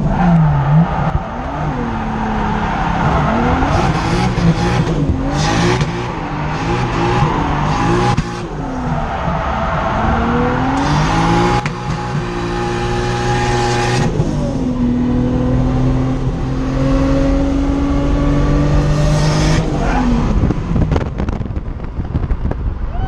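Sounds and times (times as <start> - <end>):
car engine revving: 0.0 - 22.3.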